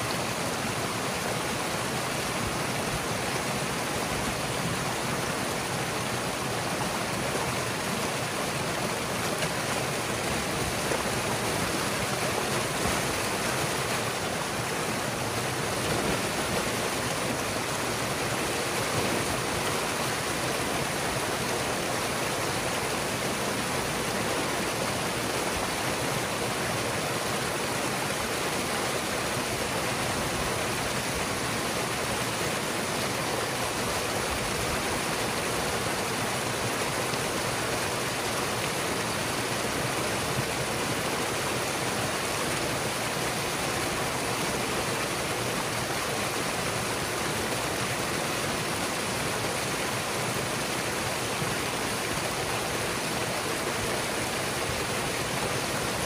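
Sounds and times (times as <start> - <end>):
water gushing torrent: 0.0 - 56.0.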